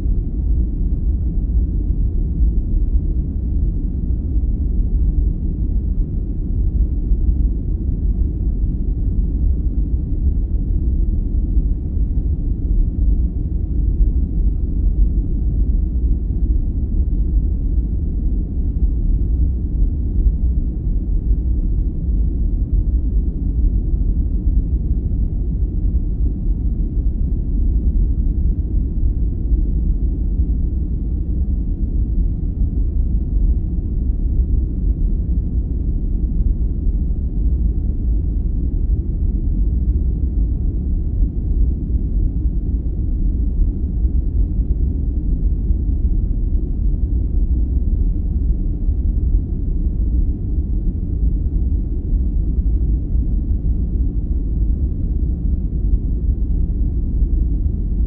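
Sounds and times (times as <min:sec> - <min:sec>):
deep steady noise: 0:00.0 - 0:58.0.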